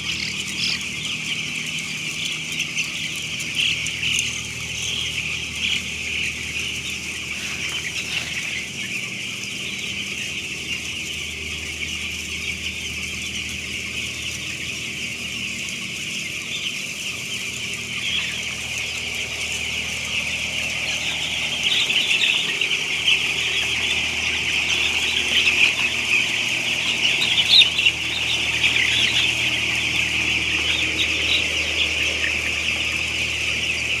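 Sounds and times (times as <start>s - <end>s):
chicks peeping: 0.0s - 34.0s
steady low hum: 0.0s - 34.0s.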